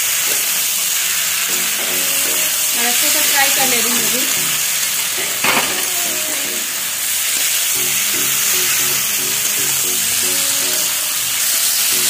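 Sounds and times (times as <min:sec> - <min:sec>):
vegetables sizzling in a pan: 0:00.0 - 0:12.0
light background music: 0:01.2 - 0:12.0.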